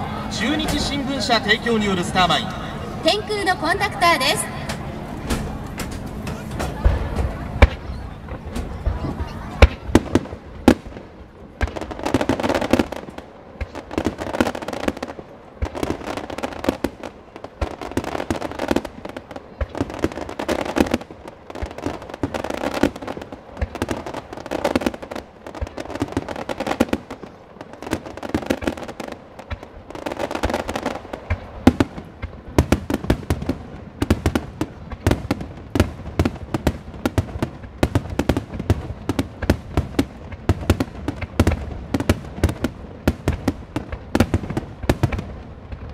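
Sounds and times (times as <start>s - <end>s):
fireworks bangs and booms: 0.0s - 45.9s.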